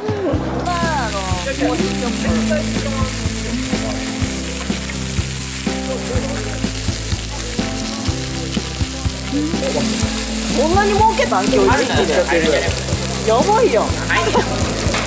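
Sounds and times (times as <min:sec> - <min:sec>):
background music with beat: 0:00.0 - 0:15.0
pork sizzling on a griddle: 0:00.6 - 0:15.0.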